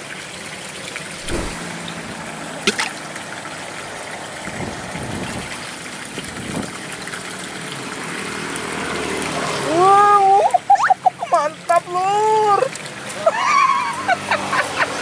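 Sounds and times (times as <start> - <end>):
water trickling in a canal: 0.0 - 15.0.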